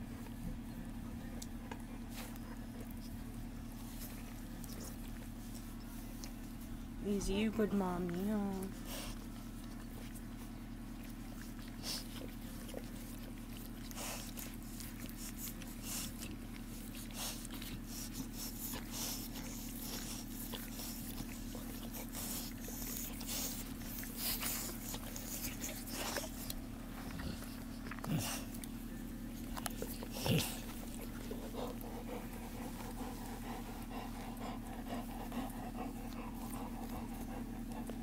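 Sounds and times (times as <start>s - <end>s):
puppies snuffling: 0.0s - 38.0s
steady low hum: 0.0s - 38.0s.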